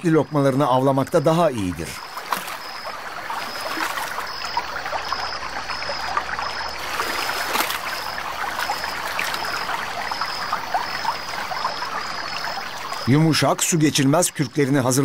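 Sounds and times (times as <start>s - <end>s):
river water trickling over rocks: 0.0s - 15.0s.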